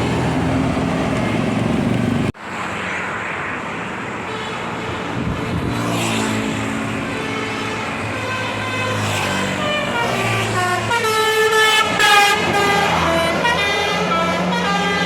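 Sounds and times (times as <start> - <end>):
tour buses passing: 0.0 - 15.0.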